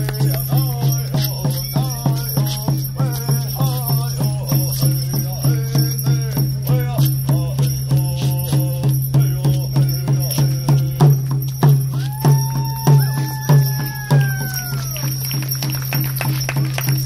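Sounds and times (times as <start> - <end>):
voices singing: 0.0 - 15.2
drum beating steadily: 0.0 - 17.0.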